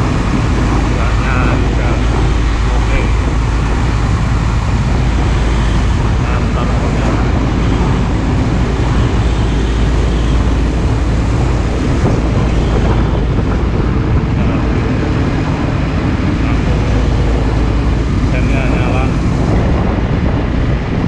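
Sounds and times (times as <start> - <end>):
heavy truck traffic rumble: 0.0 - 21.0.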